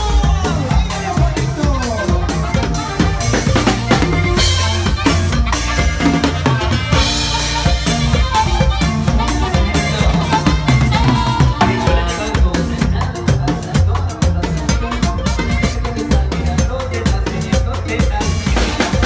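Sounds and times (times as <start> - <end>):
band music with drums and bass: 0.0 - 19.0.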